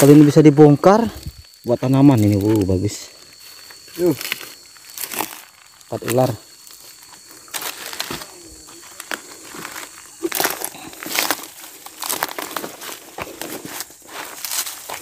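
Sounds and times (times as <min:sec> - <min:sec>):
footsteps crunching through dry brush: 0:01.2 - 0:15.0.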